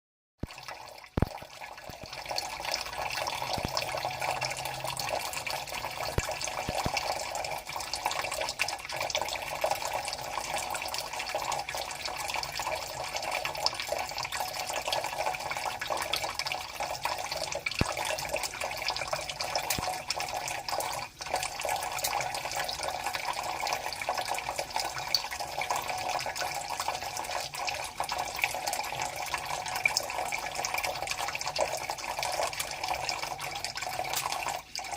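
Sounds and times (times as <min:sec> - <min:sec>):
water running from a tap: 0:00.4 - 0:34.9
water splashes and drips: 0:00.4 - 0:34.9.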